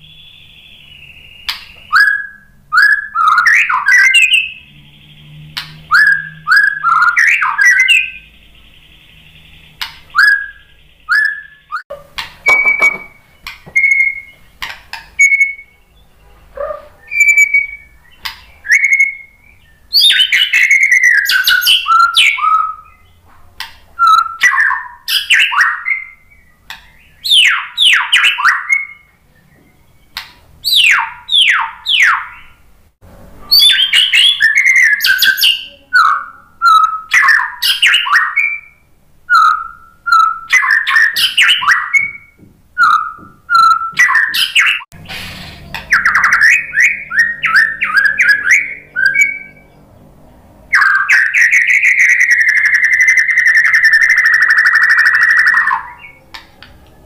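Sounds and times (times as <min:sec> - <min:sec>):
bird whistling and trilling: 0:00.0 - 0:11.8, 0:12.4 - 0:23.2, 0:24.0 - 0:32.6, 0:33.5 - 0:49.8, 0:50.7 - 0:56.2.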